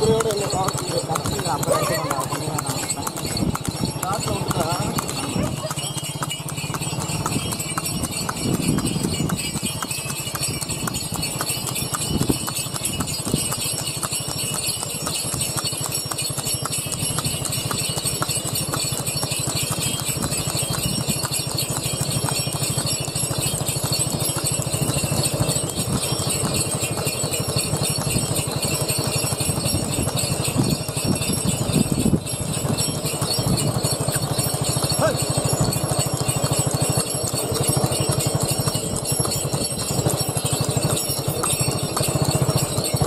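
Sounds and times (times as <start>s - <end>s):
harness bells jingling: 0.0s - 43.0s
horse hooves trotting on pavement: 0.0s - 43.0s.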